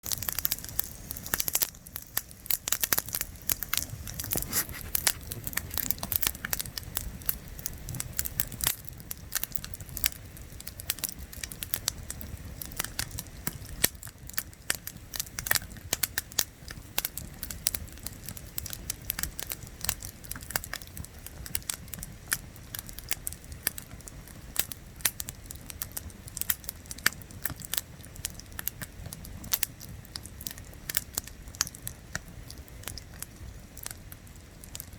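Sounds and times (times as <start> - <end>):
campfire crackling: 0.0 - 34.9.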